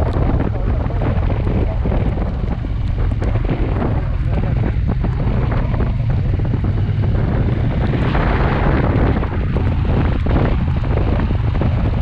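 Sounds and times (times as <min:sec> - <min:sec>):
motorcycle engine: 0:00.0 - 0:12.0
wind rumbling on microphone: 0:00.0 - 0:12.0.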